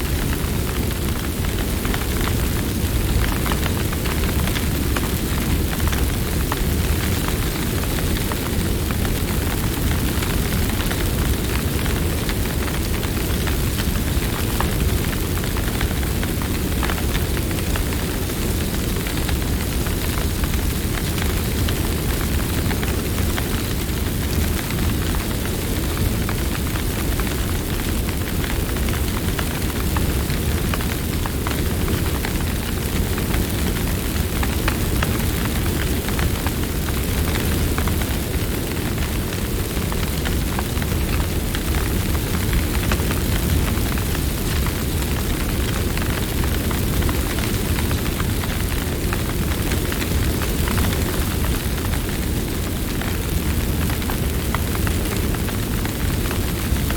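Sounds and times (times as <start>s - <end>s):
burning wood crackling: 0.0s - 56.9s
campfire flames rumbling: 0.0s - 56.9s.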